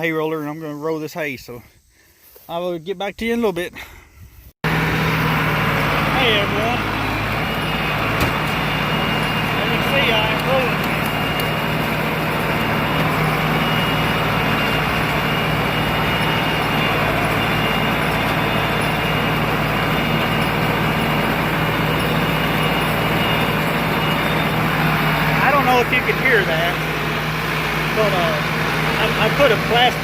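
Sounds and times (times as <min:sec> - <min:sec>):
tractor engine running under load: 0:04.6 - 0:30.0.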